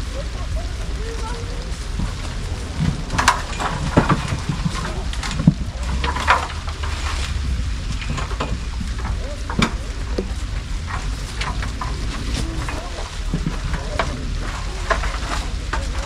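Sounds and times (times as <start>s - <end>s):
rain falling: 0.0s - 16.0s
wind rumbling on microphone: 0.0s - 16.0s.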